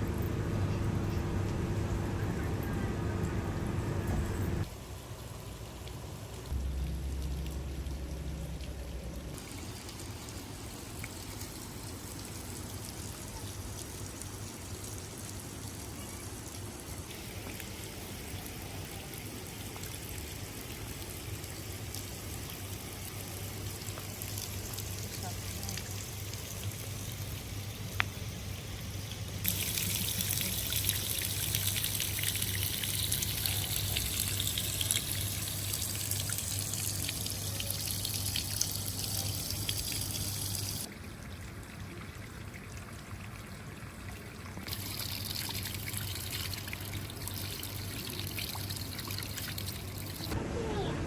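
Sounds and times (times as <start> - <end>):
water trickling: 4.6 - 28.2, 29.0 - 50.4.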